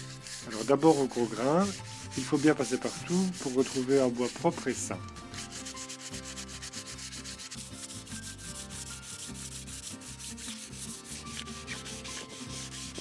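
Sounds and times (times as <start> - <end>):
sanding block rasping on wood: 0.0 - 13.0.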